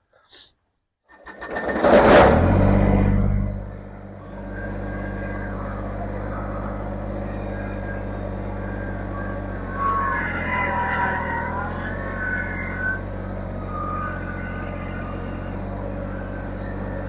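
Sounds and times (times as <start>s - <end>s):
engine starting and idling: 1.0s - 17.0s.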